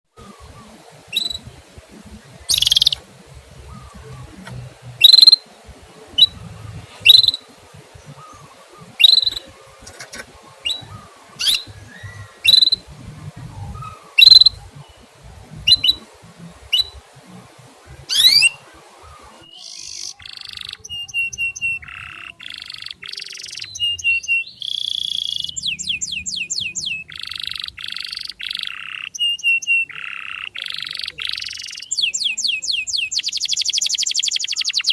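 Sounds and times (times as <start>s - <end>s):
songbird chirping and trilling: 0.2s - 34.9s.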